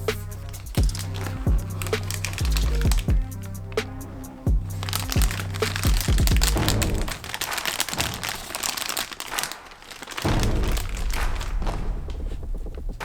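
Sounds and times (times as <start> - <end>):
plastic packaging crackling: 0.0 - 12.8
background music: 0.0 - 13.0.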